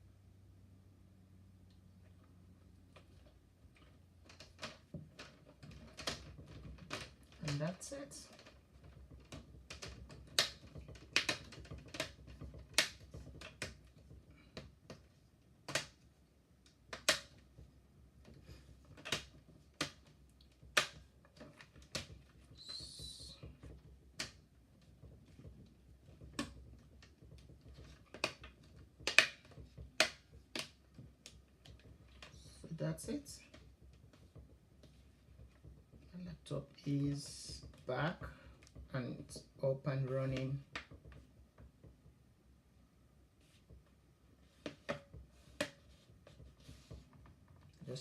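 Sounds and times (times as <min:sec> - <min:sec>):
plastic clicks and taps on laptop: 0:03.0 - 0:36.1, 0:40.2 - 0:42.1, 0:43.4 - 0:47.8.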